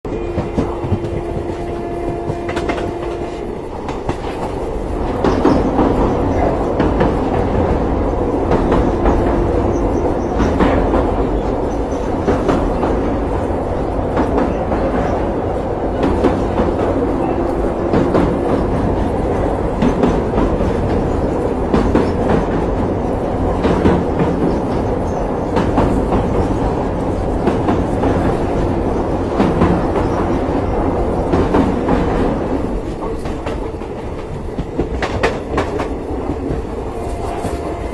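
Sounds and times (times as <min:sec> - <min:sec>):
train coaches rumbling: 0:00.0 - 0:37.9
wheels clacking over rail joints: 0:00.1 - 0:37.7.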